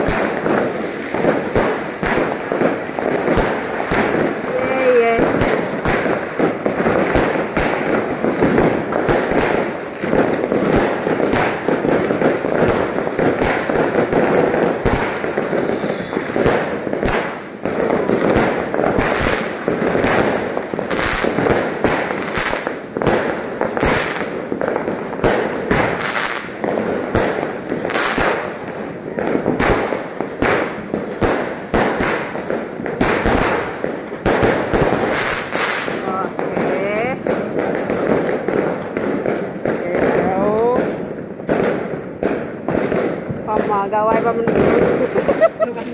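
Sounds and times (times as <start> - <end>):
fireworks bangs: 0.0 - 45.9.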